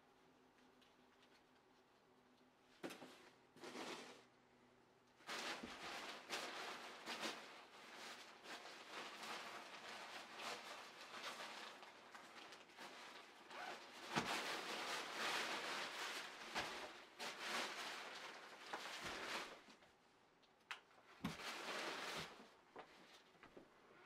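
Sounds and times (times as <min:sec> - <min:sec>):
thin fabric crinkling and rustling: 0:00.5 - 0:04.3, 0:05.2 - 0:23.8.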